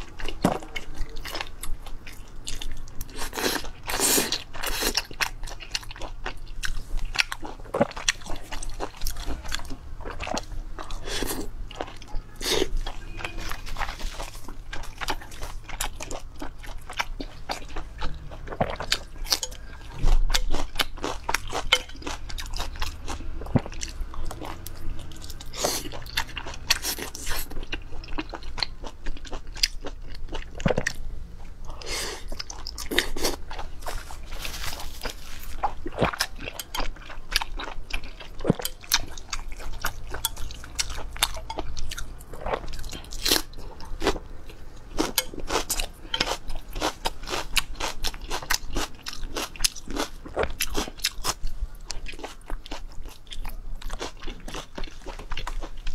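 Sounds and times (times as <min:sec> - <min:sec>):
person crunching and chewing: 0:00.0 - 0:55.9.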